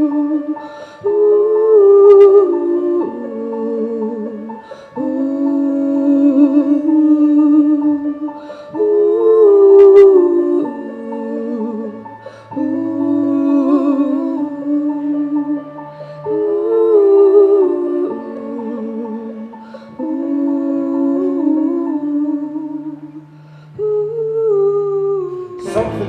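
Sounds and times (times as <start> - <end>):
wordless melody with vibrato: 0.0 - 26.0.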